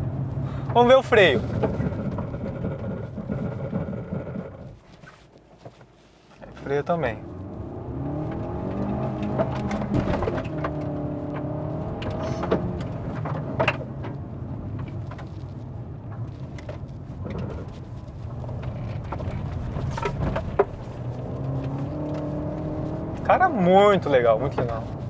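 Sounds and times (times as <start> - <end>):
car engine running under load: 0.0 - 4.8, 6.4 - 25.0.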